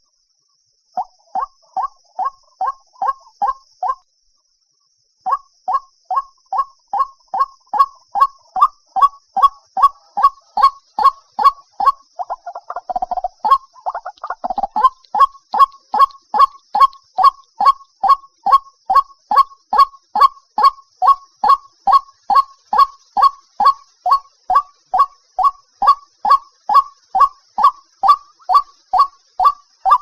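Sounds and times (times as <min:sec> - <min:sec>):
waterhen calling: 0:05.3 - 0:30.0.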